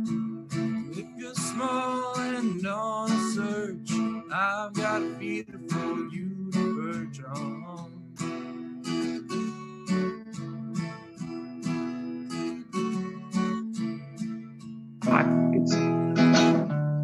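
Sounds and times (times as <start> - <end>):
acoustic guitars strumming: 0.0 - 17.0.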